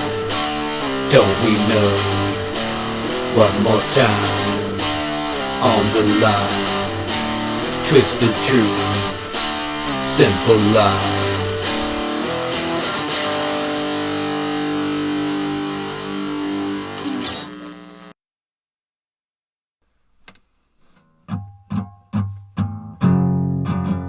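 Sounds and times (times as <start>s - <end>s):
distorted guitar music: 0.0s - 18.1s, 21.3s - 24.0s
plucked and strummed guitar song: 0.0s - 18.1s, 21.0s - 24.0s.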